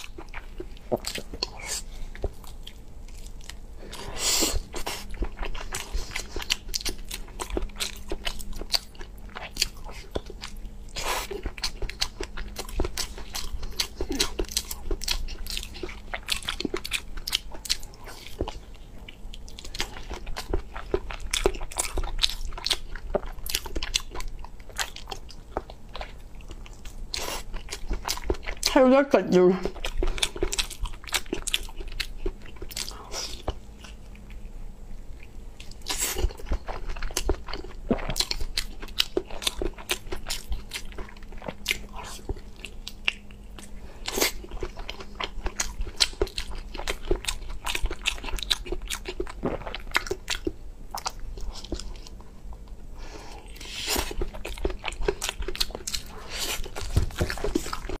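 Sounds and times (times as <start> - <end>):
person chewing with wet smacks: 0.0 - 58.0.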